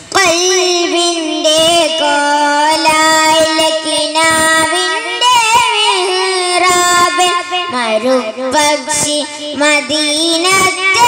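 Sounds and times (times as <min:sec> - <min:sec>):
young person singing devotional song: 0:00.0 - 0:11.0.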